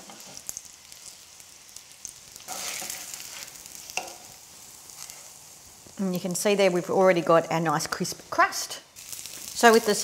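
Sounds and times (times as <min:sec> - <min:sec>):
chicken sizzling in a frying pan: 0:00.0 - 0:10.0.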